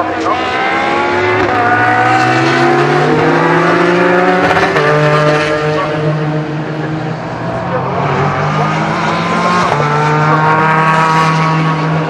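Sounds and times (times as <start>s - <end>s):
race car engines accelerating: 0.0s - 12.0s.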